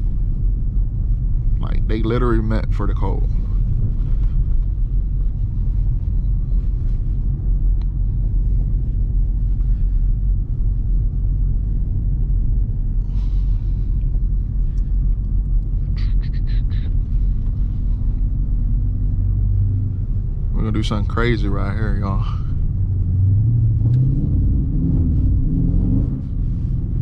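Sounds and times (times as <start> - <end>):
car engine rumble inside cabin: 0.0 - 27.0
tyres on snowy road: 0.0 - 27.0.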